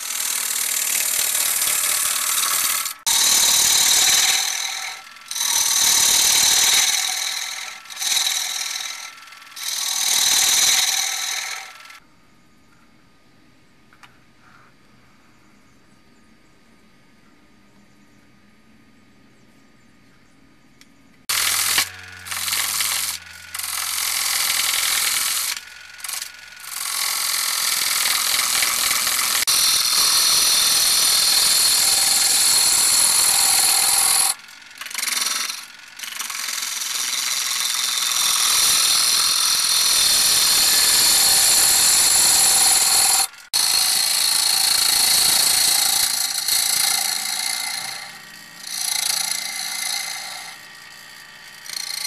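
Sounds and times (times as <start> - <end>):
lathe gouge cutting wood: 0.0 - 12.0, 21.3 - 52.0.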